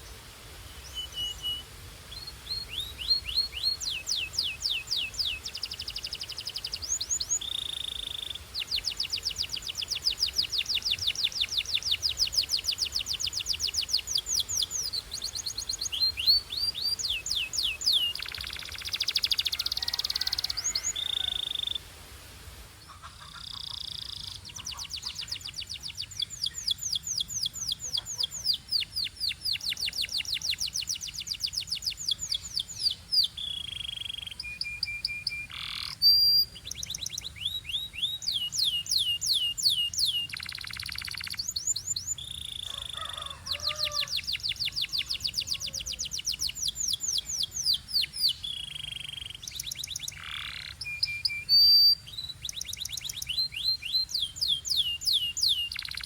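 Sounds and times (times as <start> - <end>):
canary singing trills: 0.0 - 21.8, 22.8 - 56.0.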